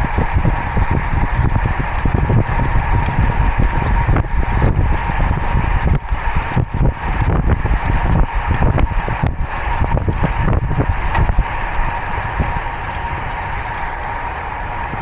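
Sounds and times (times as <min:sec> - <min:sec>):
tyre and road rush: 0:00.0 - 0:15.0
wind buffeting microphone: 0:00.0 - 0:15.0.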